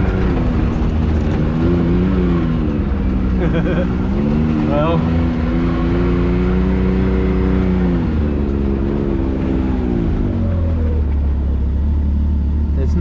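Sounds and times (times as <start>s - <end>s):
turbocharged engine running: 0.0s - 13.0s.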